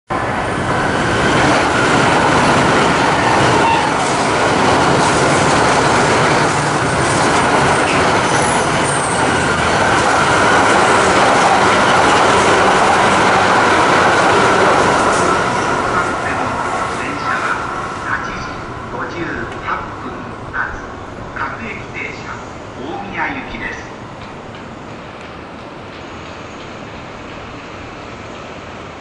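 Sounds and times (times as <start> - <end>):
high-speed train passing: 0.1 - 29.0.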